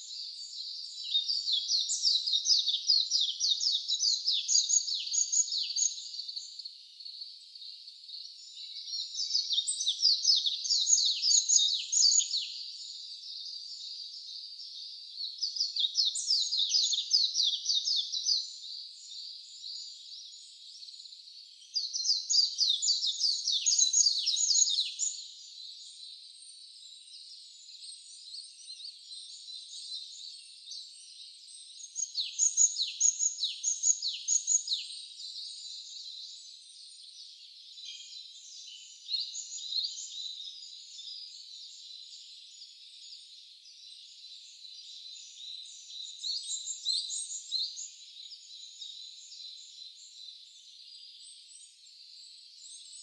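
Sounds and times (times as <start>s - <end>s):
chorus of songbirds: 0.0s - 53.0s.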